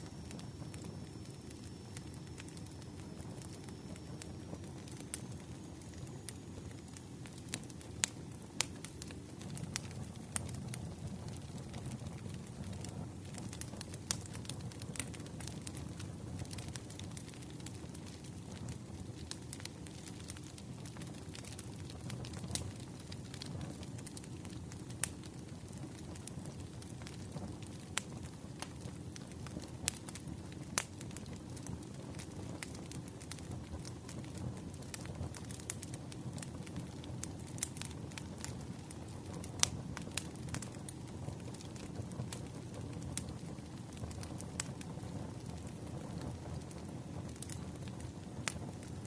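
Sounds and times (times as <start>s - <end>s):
fire crackles and pops: 0.0s - 49.0s
campfire flames rushing: 0.1s - 49.0s.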